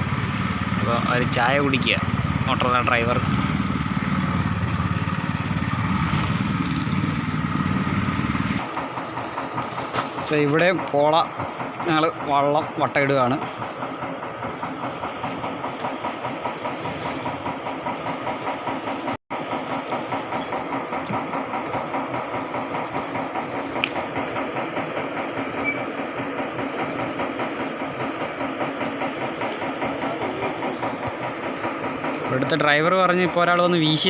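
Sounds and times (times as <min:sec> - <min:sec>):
pump machinery chugging: 0:00.0 - 0:34.0.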